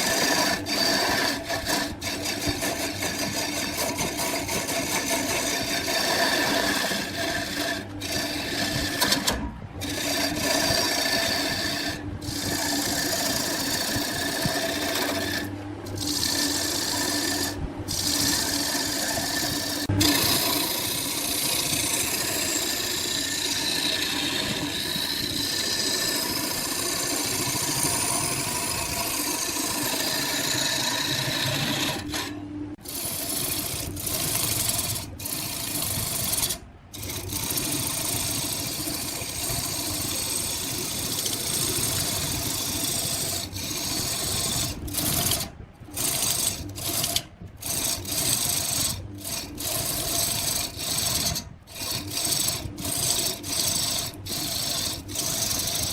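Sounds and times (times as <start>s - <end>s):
hand tool scraping spinning wood: 0.0s - 55.9s
wood lathe motor hum: 0.0s - 55.9s.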